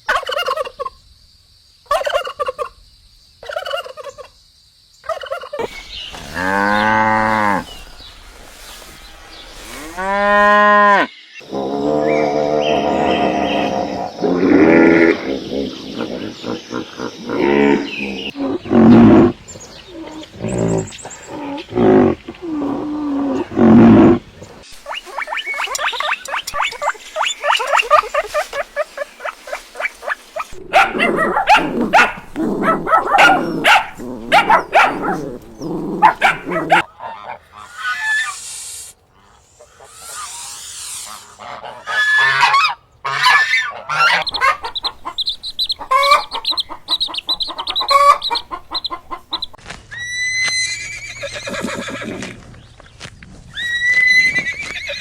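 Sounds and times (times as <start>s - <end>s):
farm animal calls: 5.1s - 8.1s, 9.6s - 22.7s, 23.4s - 38.5s, 39.1s - 52.4s.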